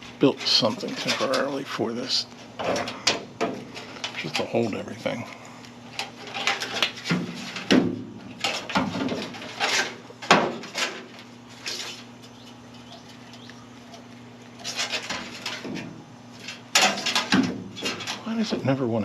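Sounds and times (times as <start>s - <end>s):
objects scraping and knocking: 0.0s - 1.6s, 2.4s - 5.2s, 5.9s - 13.2s, 13.9s - 18.4s
low steady hum: 0.0s - 19.0s.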